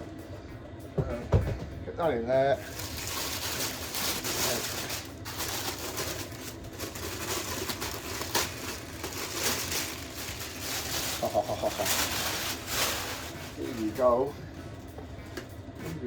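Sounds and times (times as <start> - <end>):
cardboard and plastic rustling: 2.6 - 15.5.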